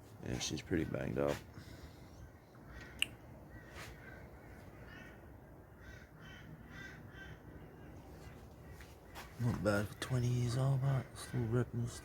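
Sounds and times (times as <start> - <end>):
bird calling faintly: 1.5 - 12.0.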